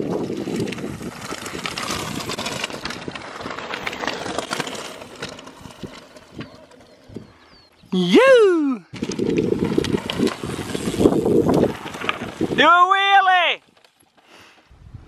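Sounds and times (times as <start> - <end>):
bike clicks and rattles: 0.0 - 7.7, 8.9 - 12.9, 13.6 - 14.7
bike tyres rushing over grass: 0.0 - 7.7, 8.9 - 15.0.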